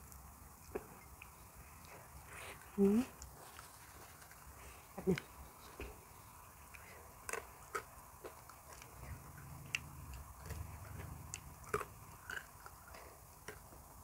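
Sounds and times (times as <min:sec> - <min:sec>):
mouth clicks and smacks chewing: 0:00.0 - 0:06.0, 0:06.6 - 0:14.0.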